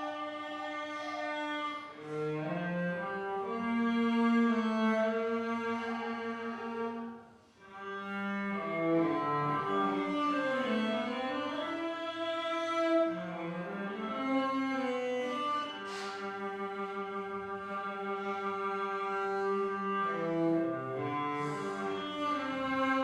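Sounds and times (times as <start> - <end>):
cello playing slow melody: 0.0 - 23.0.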